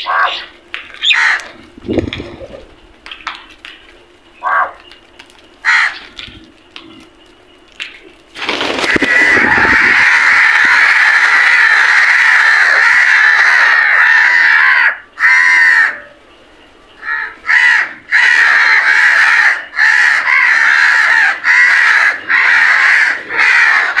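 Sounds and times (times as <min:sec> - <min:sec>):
crows cawing: 0:00.0 - 0:02.7, 0:04.4 - 0:04.8, 0:05.6 - 0:07.0, 0:08.5 - 0:16.2, 0:16.9 - 0:24.0.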